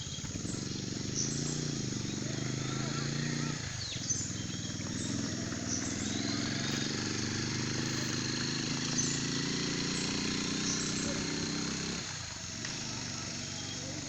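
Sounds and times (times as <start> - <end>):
high steady hiss: 0.0 - 14.0
small engine running: 0.0 - 14.0.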